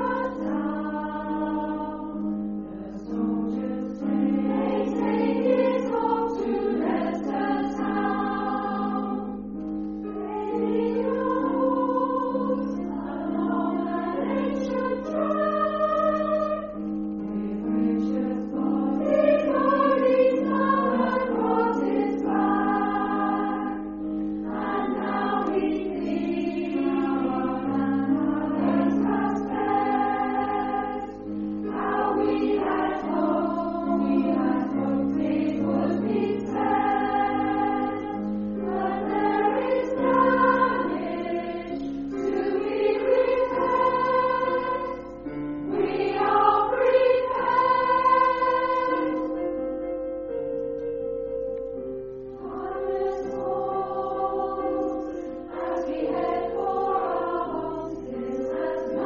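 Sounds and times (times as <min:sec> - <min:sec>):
choir singing: 0:00.0 - 0:49.6, 0:52.3 - 0:59.0.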